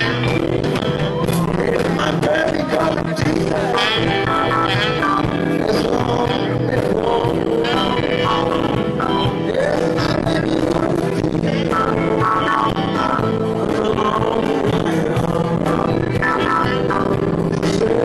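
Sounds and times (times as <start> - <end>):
drum kit: 0.0 - 18.0
electric guitar: 0.0 - 18.0.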